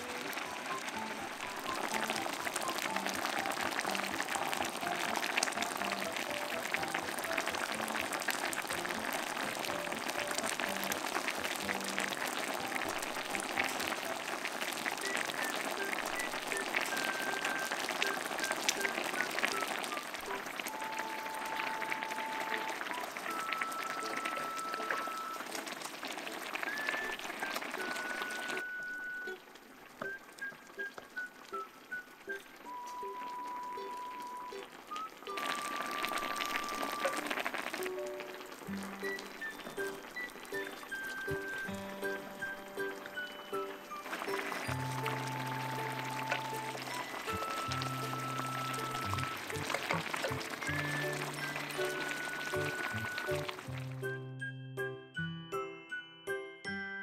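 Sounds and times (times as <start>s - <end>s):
light background music: 0.0s - 29.4s, 30.0s - 57.0s
stew bubbling and crackling: 0.0s - 54.2s.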